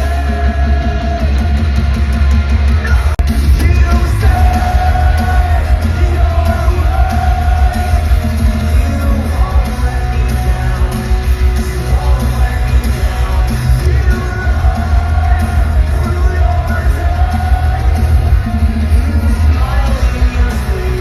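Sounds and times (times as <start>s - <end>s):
live rock band playing: 0.0s - 21.0s
person singing and yelling: 2.7s - 21.0s.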